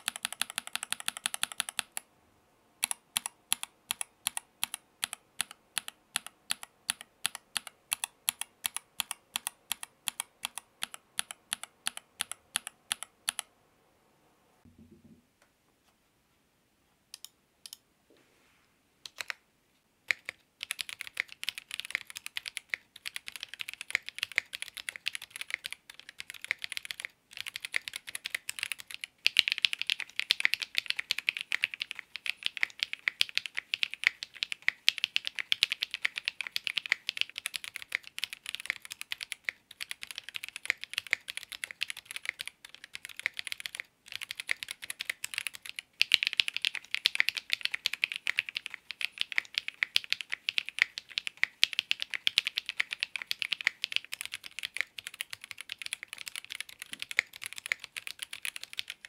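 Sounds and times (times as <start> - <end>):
mechanical keyboard typing: 0.0 - 2.0, 2.8 - 13.5, 19.1 - 19.4, 20.1 - 59.0.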